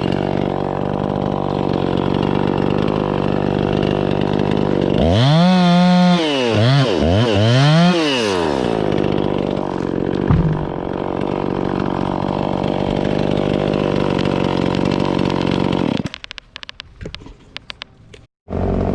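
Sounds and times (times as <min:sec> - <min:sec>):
chainsaw engine revving and idling: 0:00.0 - 0:16.2, 0:18.5 - 0:18.9.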